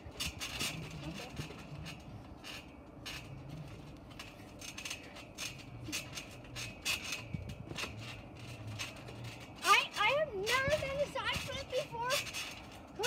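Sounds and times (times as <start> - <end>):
trampoline springs squeaking: 0.0 - 13.0.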